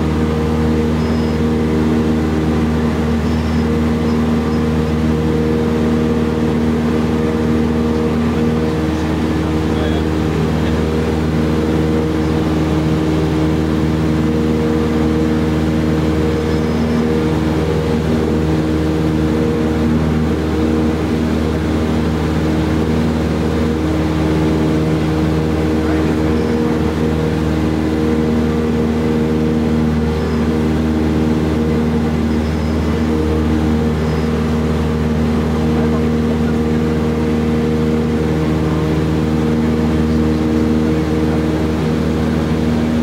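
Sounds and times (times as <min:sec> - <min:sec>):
aircraft engine drone in cabin: 0:00.0 - 0:43.0.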